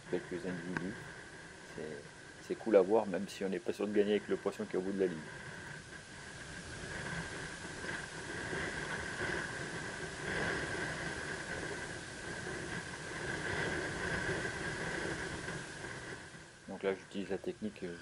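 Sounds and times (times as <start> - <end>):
surf: 0.0 - 18.0
thin steady whine: 0.0 - 18.0
wind: 0.0 - 18.0.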